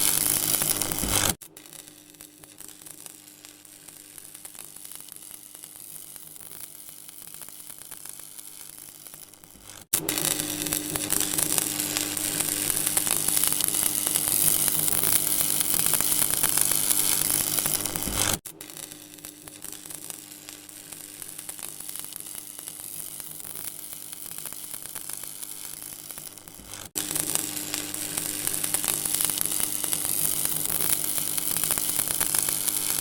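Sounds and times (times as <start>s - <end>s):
sizzling static buzz: 0.0s - 33.0s.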